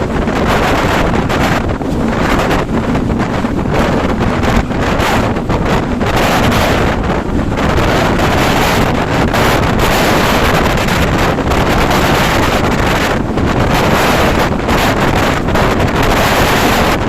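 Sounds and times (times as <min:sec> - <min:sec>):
passenger train rumbling: 0:00.0 - 0:17.0
wind buffeting microphone: 0:00.0 - 0:17.0.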